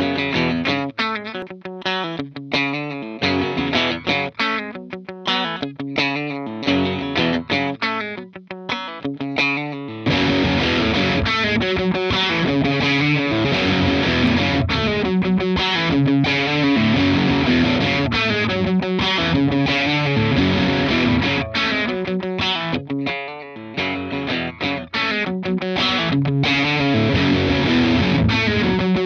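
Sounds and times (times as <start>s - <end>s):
overdriven electric guitar: 0.0s - 29.0s.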